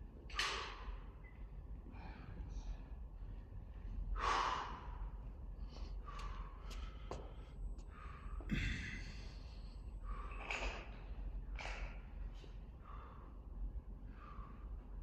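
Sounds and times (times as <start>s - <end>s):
person breathing hard: 1.9s - 15.0s.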